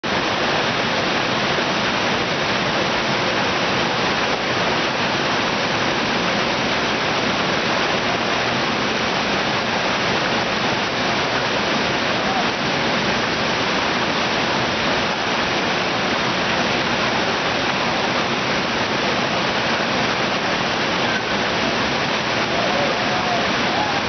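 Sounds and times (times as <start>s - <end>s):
water rushing over rapids: 0.0s - 24.0s.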